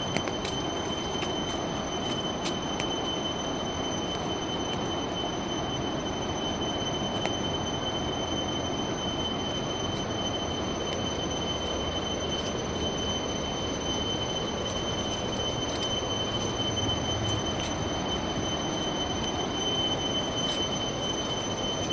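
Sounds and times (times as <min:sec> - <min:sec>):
insects high-pitched tone: 0:00.0 - 0:21.9.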